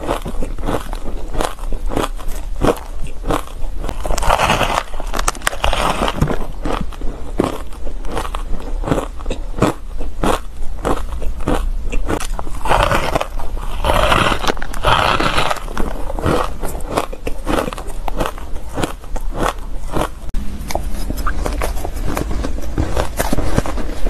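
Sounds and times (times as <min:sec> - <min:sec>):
ice being chewed crunchily: 0:00.0 - 0:24.0.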